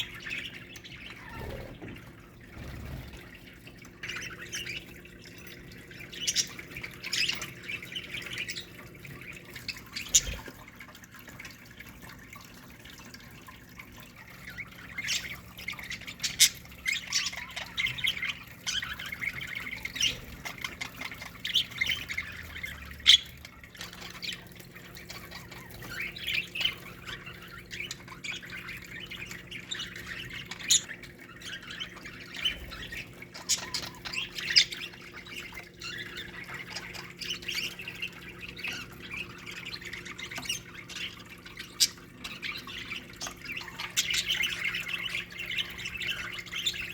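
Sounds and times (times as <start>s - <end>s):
budgerigars chattering and squawking: 0.0s - 10.7s, 14.2s - 46.9s.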